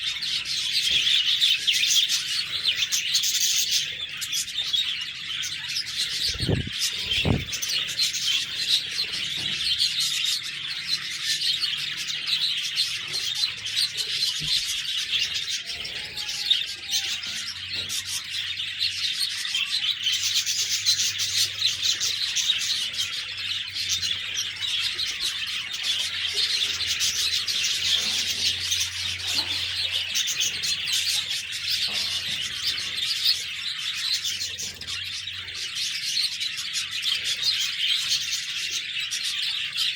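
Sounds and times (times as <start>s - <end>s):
parakeets chirping and warbling: 0.0s - 39.9s.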